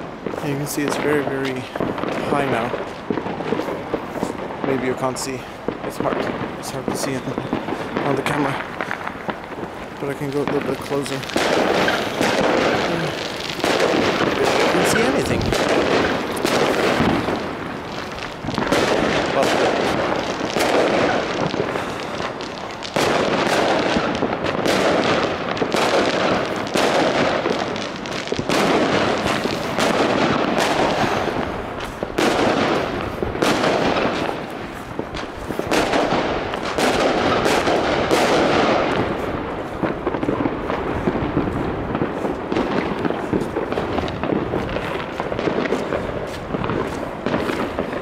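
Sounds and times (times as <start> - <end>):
aerial fireworks bangs and cracks: 0.0 - 48.0.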